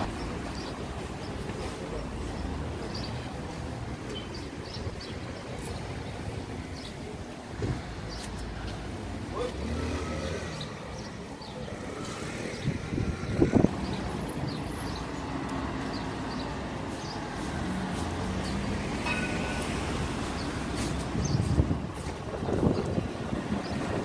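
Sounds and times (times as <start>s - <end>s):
traffic: 0.0s - 24.0s
vehicle running noise: 0.0s - 24.0s.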